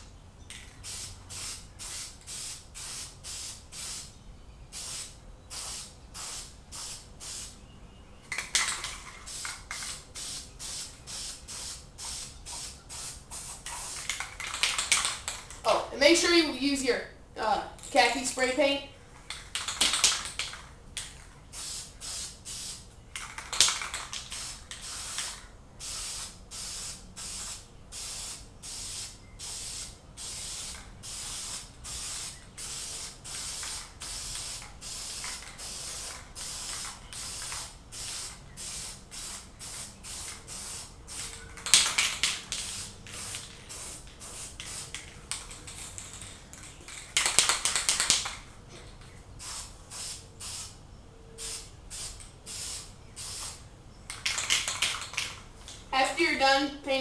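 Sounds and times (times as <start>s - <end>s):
spray paint can hissing: 0.6s - 4.1s, 4.7s - 7.6s, 8.3s - 16.3s, 19.3s - 48.5s, 49.4s - 50.8s, 51.4s - 56.1s.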